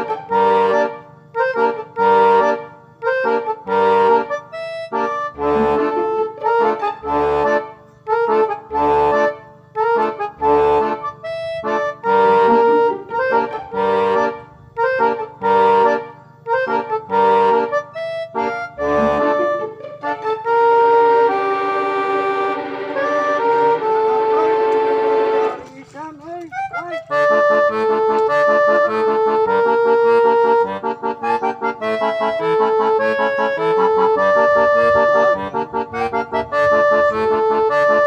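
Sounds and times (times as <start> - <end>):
rhythmic melody with bass notes: 0.0 - 38.0.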